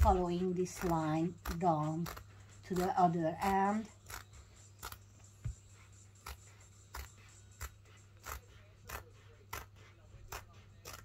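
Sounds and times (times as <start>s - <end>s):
scissors snipping leather: 0.0s - 11.0s.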